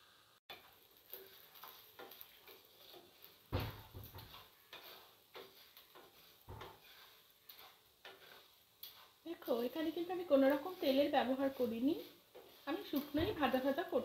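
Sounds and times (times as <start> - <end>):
lentils rattling in a pan: 0.5 - 14.0
spatula knocking pan: 0.5 - 14.0.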